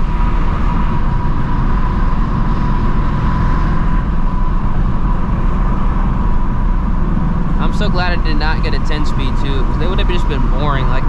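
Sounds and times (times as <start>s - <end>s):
car exhaust rumble: 0.0s - 11.0s
faint steady whine: 0.0s - 11.0s
road noise: 0.0s - 11.0s.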